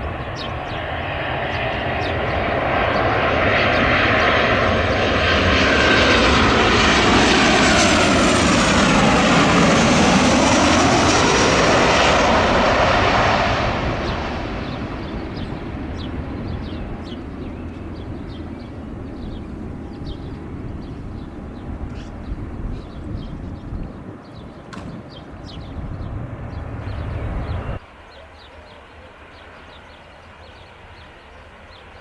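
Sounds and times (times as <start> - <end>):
jet aircraft passing: 0.0 - 32.0.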